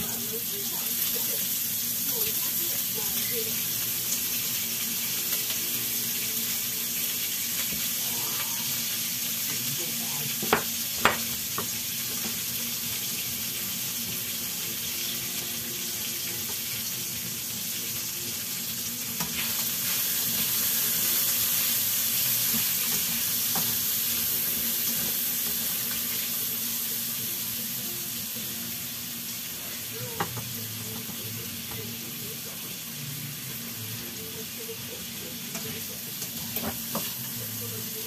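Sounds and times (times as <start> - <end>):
meat sizzling in a wok: 0.0 - 38.0.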